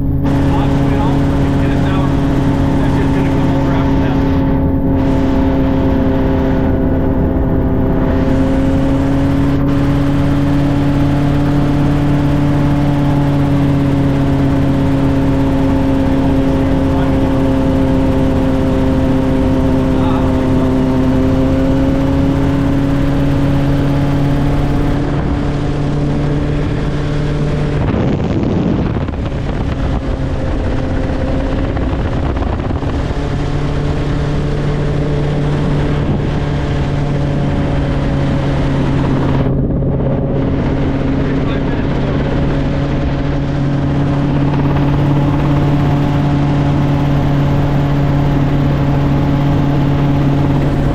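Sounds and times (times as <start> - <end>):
helicopter rotor and engine drone: 0.0 - 50.9.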